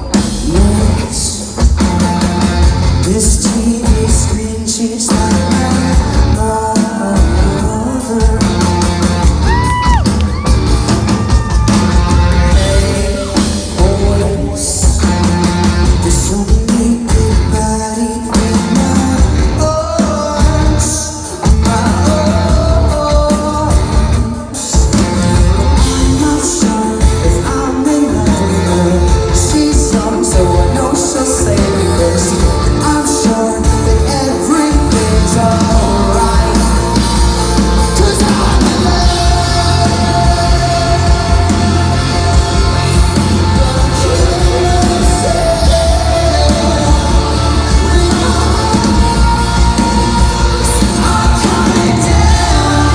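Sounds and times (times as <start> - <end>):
live rock band playing: 0.0 - 52.9
person singing: 0.0 - 52.9.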